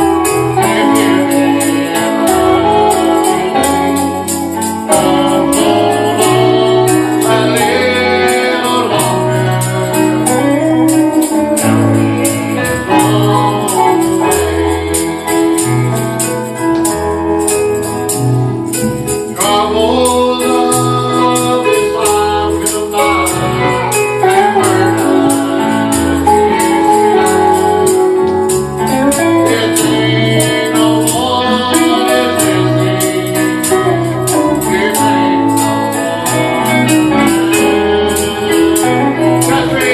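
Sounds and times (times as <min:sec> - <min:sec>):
singing: 0:00.0 - 0:16.0, 0:19.4 - 0:27.6, 0:29.2 - 0:39.9
bass line: 0:00.0 - 0:39.9
keyboard chords: 0:00.0 - 0:39.9
tambourine jingling: 0:00.0 - 0:39.9.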